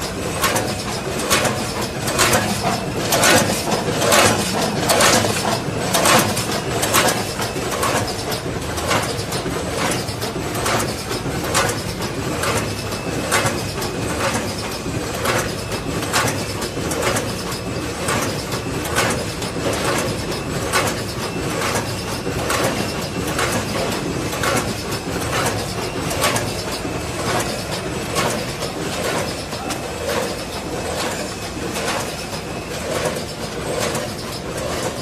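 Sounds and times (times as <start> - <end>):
packing machine mechanical din: 0.0 - 35.0
sharp machine clack: 0.0 - 35.0.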